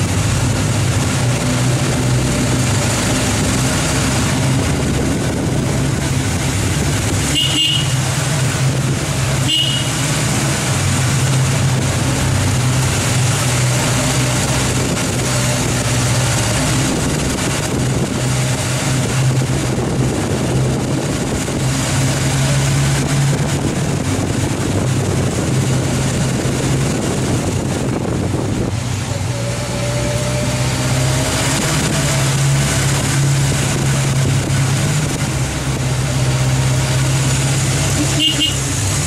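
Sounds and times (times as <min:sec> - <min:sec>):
vehicle engine running: 0:00.0 - 0:39.0
wind and road noise: 0:00.0 - 0:39.0.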